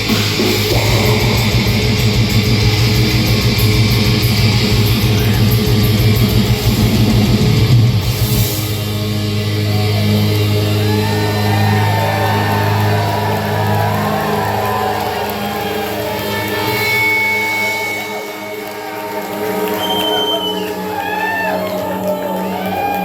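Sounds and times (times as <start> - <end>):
metal band playing live: 0.0 - 23.0.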